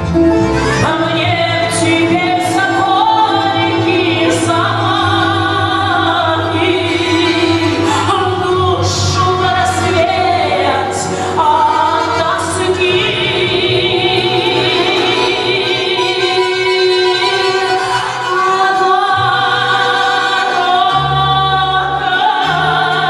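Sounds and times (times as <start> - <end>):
balalaikas and accordion ensemble: 0.0 - 23.0
woman singing with vibrato: 0.7 - 23.0.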